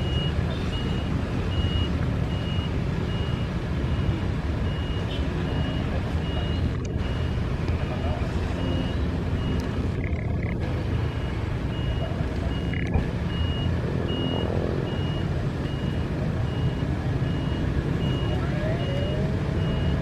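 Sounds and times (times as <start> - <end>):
reversing alarm beeping: 0.0 - 9.7, 10.9 - 20.0
engine rumble: 0.0 - 20.0.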